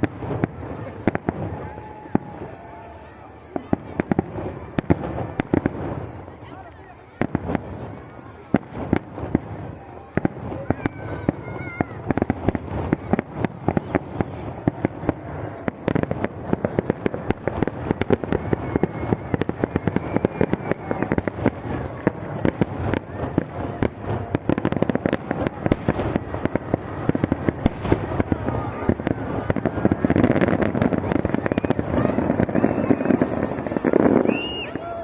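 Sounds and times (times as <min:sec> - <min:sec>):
fireworks crackling bangs: 0:00.0 - 0:35.0.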